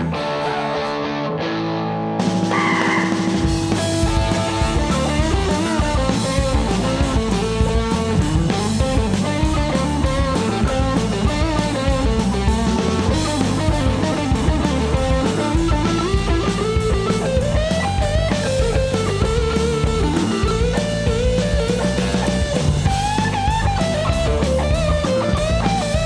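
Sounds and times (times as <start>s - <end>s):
electric guitar lead melody: 0.0s - 26.0s
drum kit beat: 2.2s - 26.0s.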